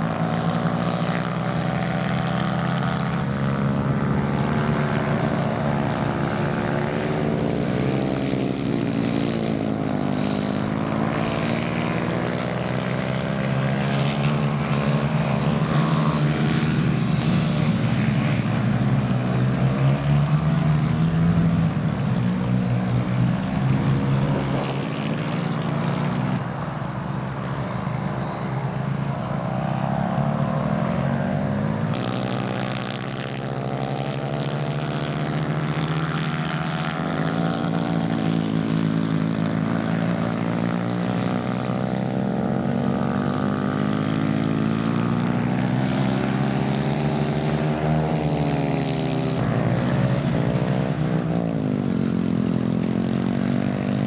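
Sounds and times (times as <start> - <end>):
kart engines revving: 0.0 - 54.0.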